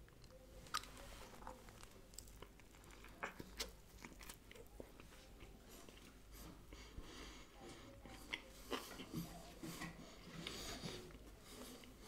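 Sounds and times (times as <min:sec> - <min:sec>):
mouth chewing with smacks: 0:00.0 - 0:07.0, 0:07.7 - 0:12.0.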